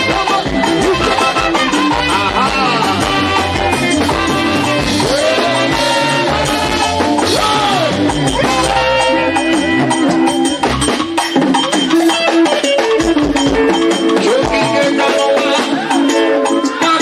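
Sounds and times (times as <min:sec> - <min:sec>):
busy percussion beat: 0:00.0 - 0:17.0
gospel band music: 0:00.0 - 0:17.0.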